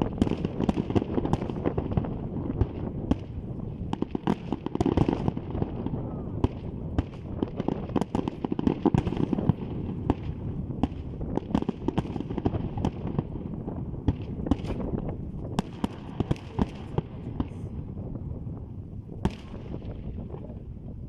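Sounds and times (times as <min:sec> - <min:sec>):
fireworks bangs and cracks: 0:00.0 - 0:20.6
rumble of fireworks booms: 0:00.0 - 0:21.0.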